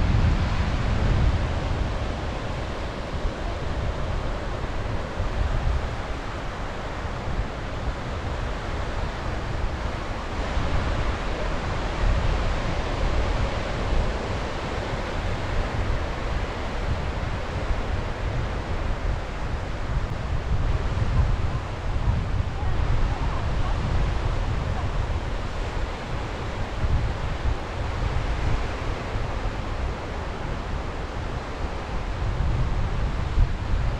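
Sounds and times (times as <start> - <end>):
sea waves breaking on shore: 0.0 - 33.9
wind buffeting microphone: 0.0 - 33.9.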